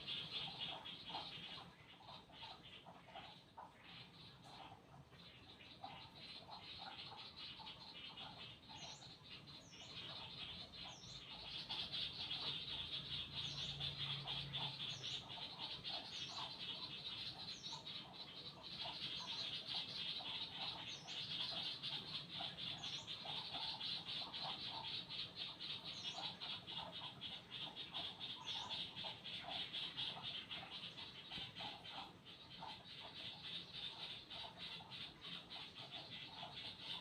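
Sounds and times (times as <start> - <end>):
birds chirping and calling: 0.0 - 37.0.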